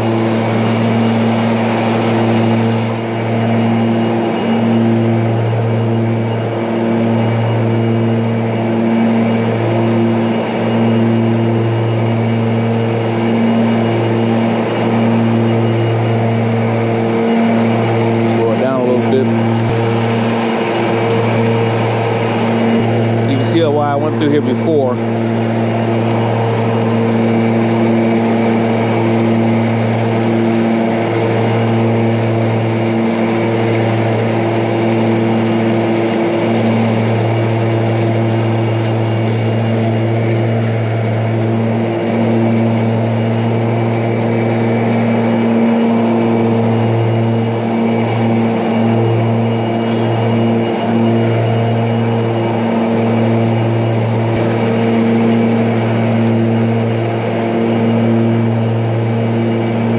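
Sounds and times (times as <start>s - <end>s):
electric riding mower humming: 0.0s - 59.9s.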